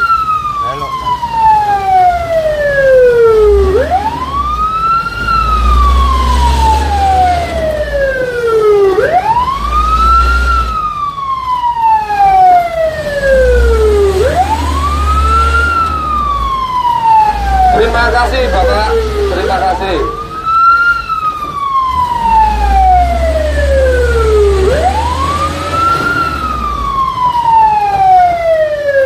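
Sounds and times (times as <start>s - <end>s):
fire truck siren wailing: 0.0s - 29.0s.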